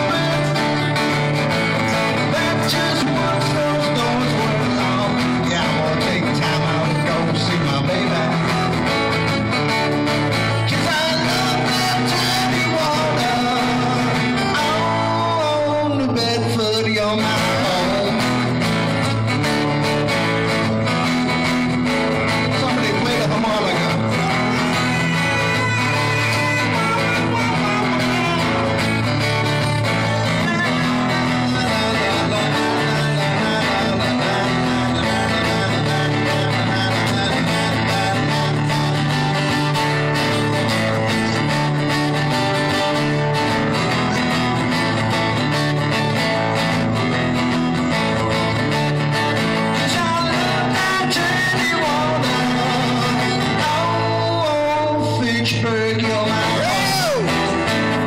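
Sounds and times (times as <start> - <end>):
man singing: 0.0 - 58.0
strummed guitar through pa: 0.0 - 58.0.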